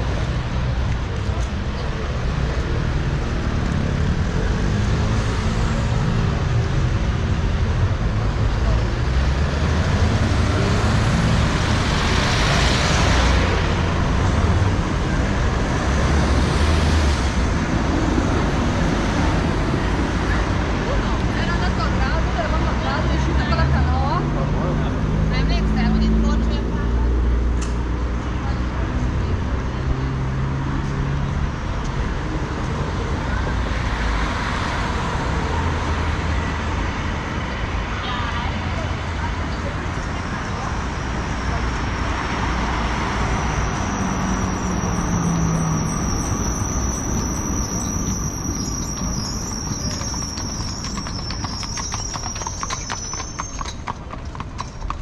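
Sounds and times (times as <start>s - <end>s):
faint passers-by voices: 0.0s - 15.4s, 17.7s - 55.0s
road traffic rumble: 0.0s - 55.0s.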